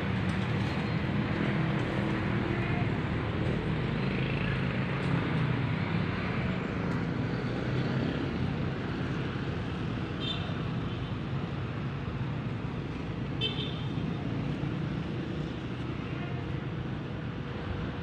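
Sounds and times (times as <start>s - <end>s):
street traffic passing: 0.0s - 18.0s.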